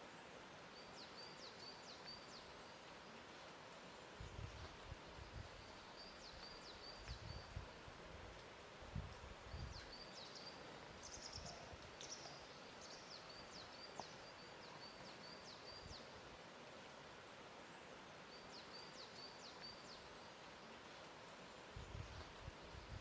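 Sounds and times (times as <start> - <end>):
soft wash of water: 0.0 - 23.0.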